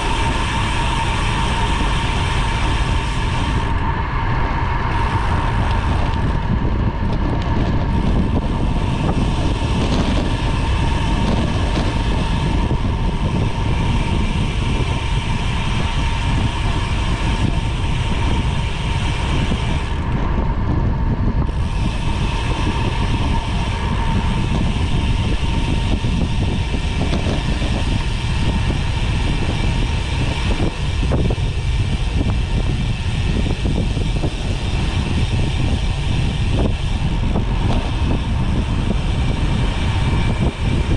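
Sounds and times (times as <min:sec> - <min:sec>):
thin steady whine: 0:00.0 - 0:40.9
tyres rumbling on road: 0:00.0 - 0:40.9
wind buffeting microphone: 0:00.0 - 0:40.9.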